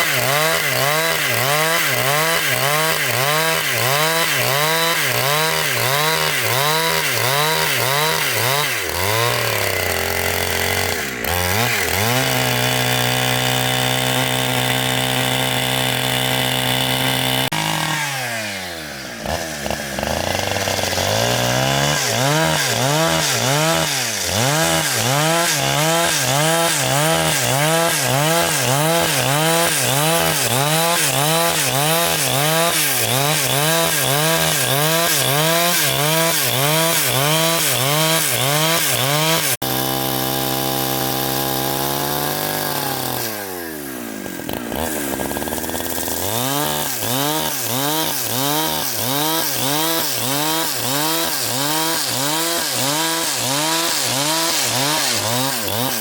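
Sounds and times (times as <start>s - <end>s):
engine saw cutting wood: 0.0s - 56.0s.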